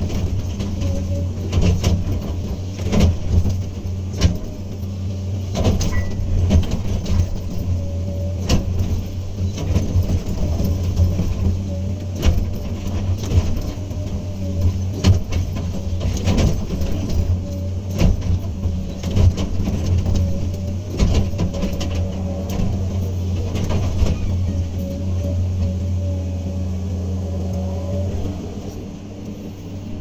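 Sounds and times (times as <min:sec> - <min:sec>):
excavator diesel engine running: 0:00.0 - 0:30.0
faint steady whine: 0:00.0 - 0:30.0.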